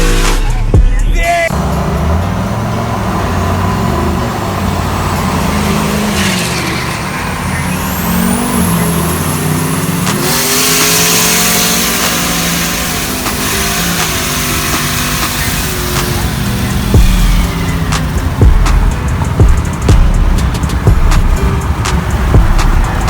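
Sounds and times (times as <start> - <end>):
car engines revving: 0.0 - 23.0
high whine: 3.4 - 23.0.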